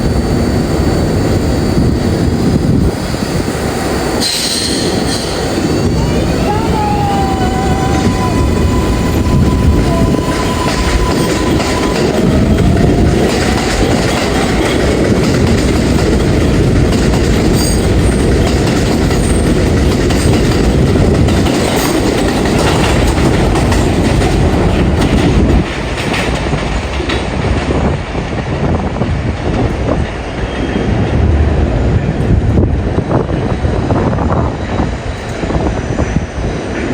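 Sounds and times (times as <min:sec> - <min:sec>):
subway train wheels clacking: 0:00.0 - 0:36.9.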